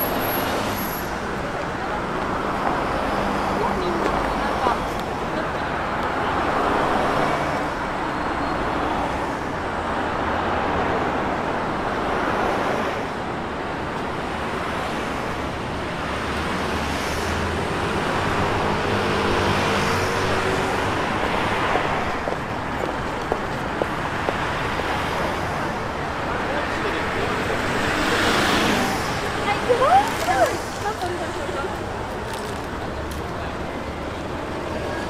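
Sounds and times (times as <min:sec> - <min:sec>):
cars passing: 0:00.0 - 0:35.0.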